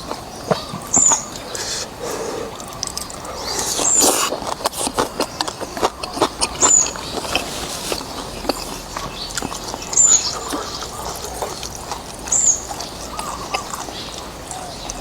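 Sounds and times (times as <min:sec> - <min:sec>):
slurping and chewing noodles: 0:00.0 - 0:15.0.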